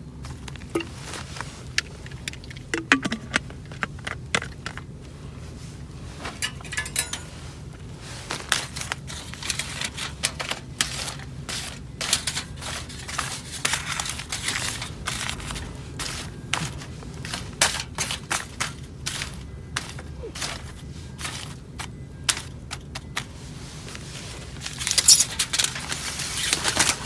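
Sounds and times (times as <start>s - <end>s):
camp gear clicking and clinking: 0.2s - 27.0s.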